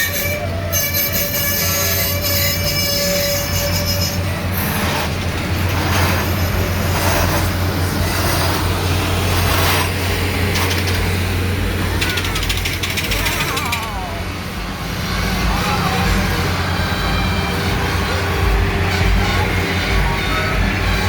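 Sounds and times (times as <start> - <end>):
steady low drone: 0.0 - 21.0
train wheels squealing on rails: 0.0 - 21.0.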